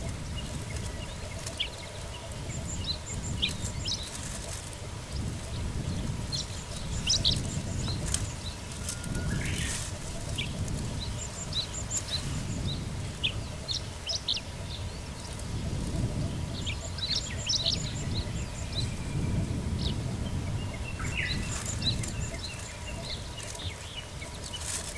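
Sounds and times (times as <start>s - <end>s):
bird chirping: 0.0s - 24.9s.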